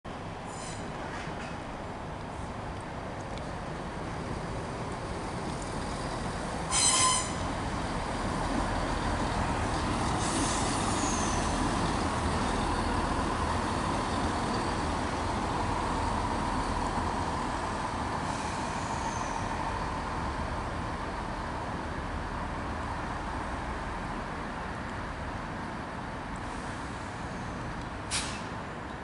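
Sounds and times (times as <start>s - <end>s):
train engine and wheel noise: 0.1s - 29.0s.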